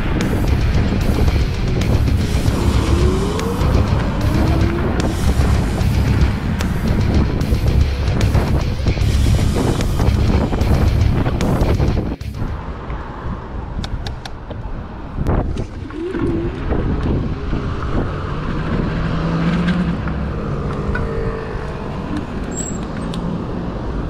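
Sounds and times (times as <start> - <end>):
wind rumbling on microphone: 0.0 - 22.4
road traffic: 0.0 - 24.0.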